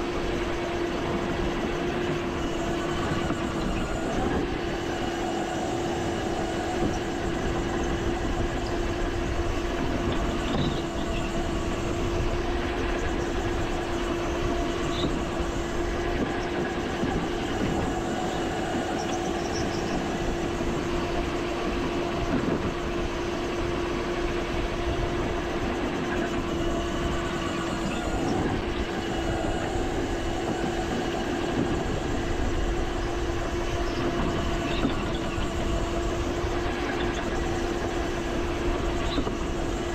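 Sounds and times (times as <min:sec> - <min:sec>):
go-kart engine hum: 0:00.0 - 0:39.9
kart and tyres rattling rumble: 0:00.0 - 0:39.9.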